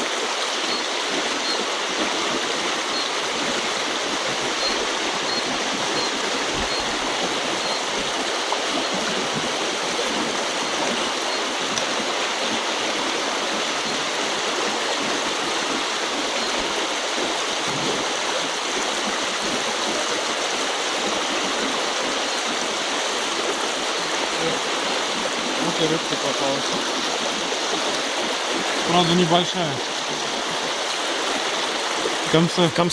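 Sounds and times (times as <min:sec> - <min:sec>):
river rushing over riffle: 0:00.0 - 0:32.9.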